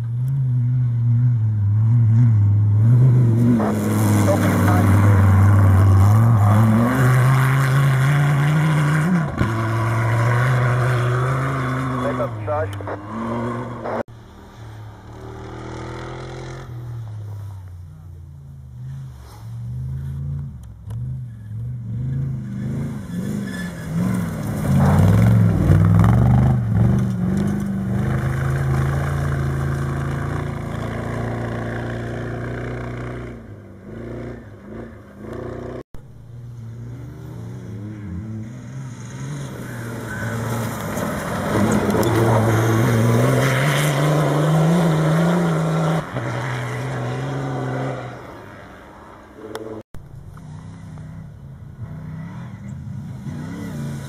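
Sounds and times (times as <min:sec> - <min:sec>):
rally cars passing at speed: 0:00.0 - 0:54.0.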